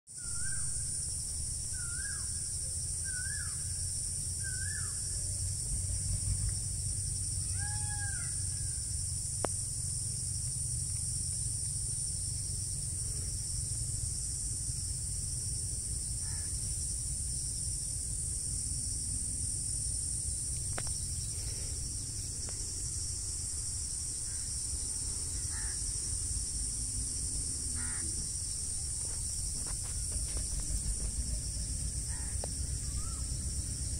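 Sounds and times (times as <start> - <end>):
high-pitched insect chorus: 0.1 - 33.9
low rumble of wind: 0.2 - 33.9.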